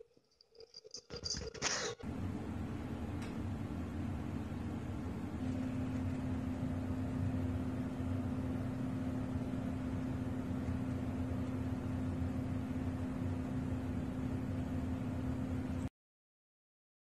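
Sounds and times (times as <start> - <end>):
steady mid-low hum: 1.2 - 15.9.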